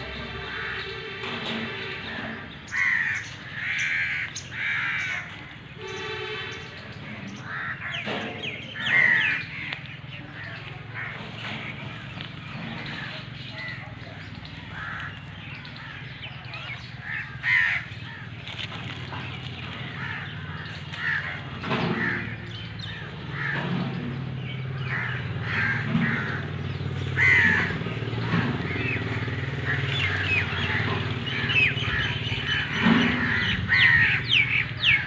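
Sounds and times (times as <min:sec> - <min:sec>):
crows cawing: 0:00.3 - 0:01.1, 0:02.1 - 0:06.4, 0:07.3 - 0:35.0.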